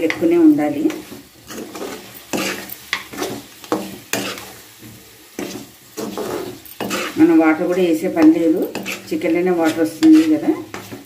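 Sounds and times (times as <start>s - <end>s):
food sizzling in oil: 0.0s - 11.0s
metal spoon scraping a pan: 0.0s - 11.0s.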